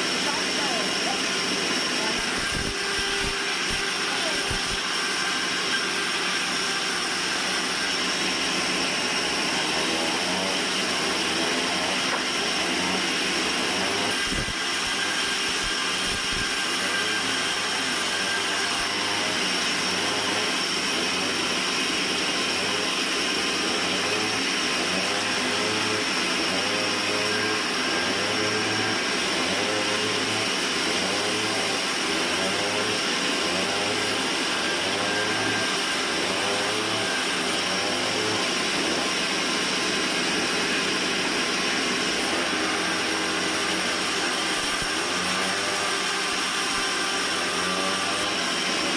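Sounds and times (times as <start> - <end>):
band sawmill running: 0.0 - 48.9.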